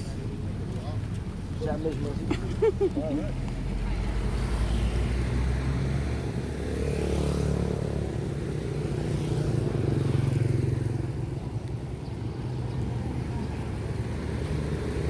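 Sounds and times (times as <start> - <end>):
vehicle engines passing: 0.0 - 15.0.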